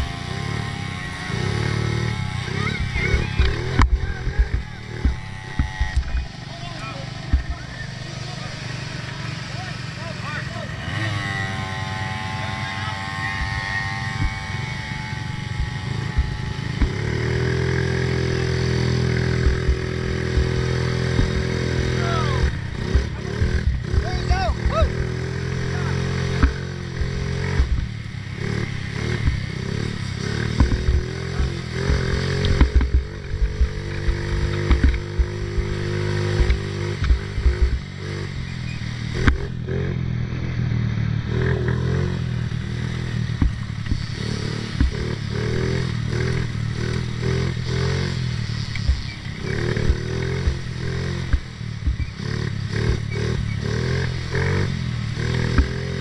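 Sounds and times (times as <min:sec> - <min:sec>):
knocks and rattles of quad: 0:00.0 - 0:56.0
small atv engine revving: 0:00.0 - 0:56.0.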